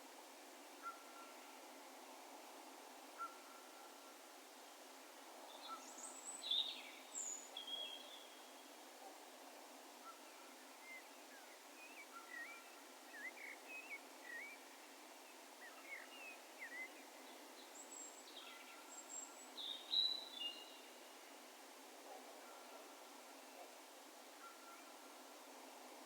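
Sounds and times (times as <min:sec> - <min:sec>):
faint outdoor hiss: 0:00.0 - 0:26.0.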